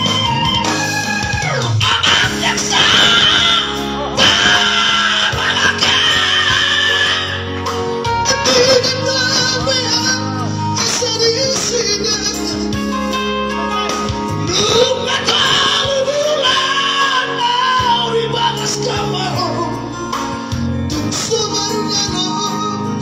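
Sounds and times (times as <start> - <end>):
instrumental backing music: 0.0 - 23.0
male vocal trio singing: 1.8 - 12.8, 14.4 - 23.0.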